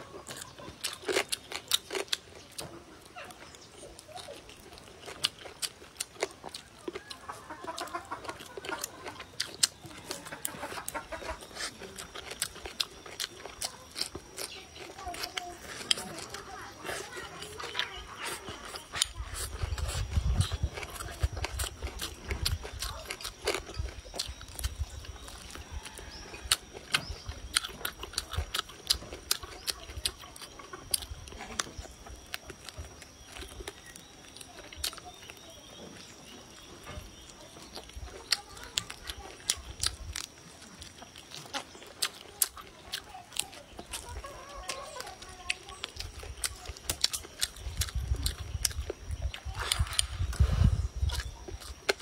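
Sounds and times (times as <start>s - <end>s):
chewing and lip-smacking: 0.0s - 52.0s.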